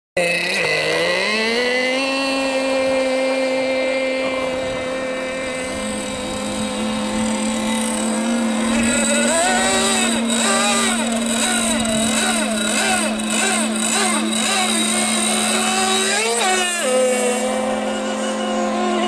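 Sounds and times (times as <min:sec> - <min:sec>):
model boat engines whining: 0:00.2 - 0:19.0.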